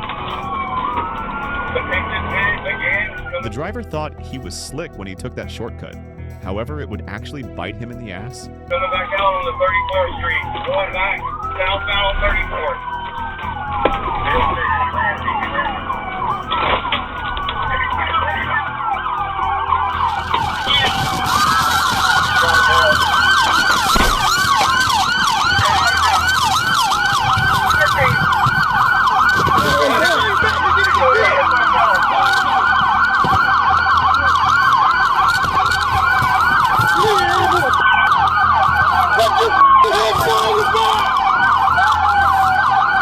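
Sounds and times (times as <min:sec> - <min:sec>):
police siren yelping: 0:00.0 - 0:03.5, 0:08.7 - 0:43.0
police siren wailing: 0:00.0 - 0:04.1, 0:08.1 - 0:43.0.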